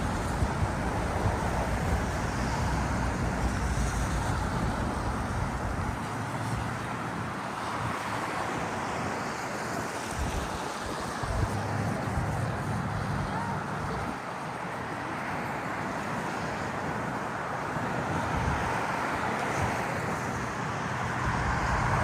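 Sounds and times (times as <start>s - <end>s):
wind rumble on microphone: 0.0s - 14.9s, 15.7s - 22.0s
city traffic hiss: 0.0s - 22.0s.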